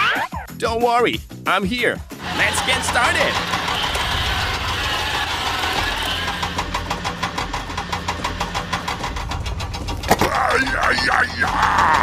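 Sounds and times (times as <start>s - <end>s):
truck engine chugging: 2.2s - 12.0s.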